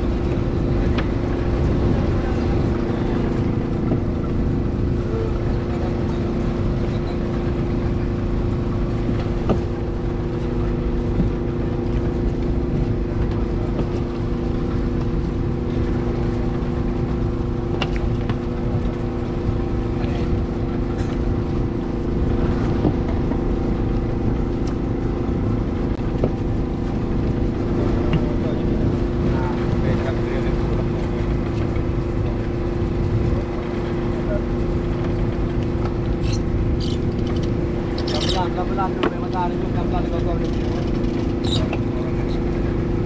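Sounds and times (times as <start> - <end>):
motor engine humming: 0.0 - 43.0.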